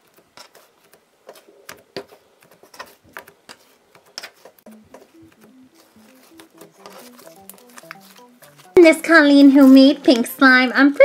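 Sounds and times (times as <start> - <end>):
quiet background music: 0.4 - 11.0.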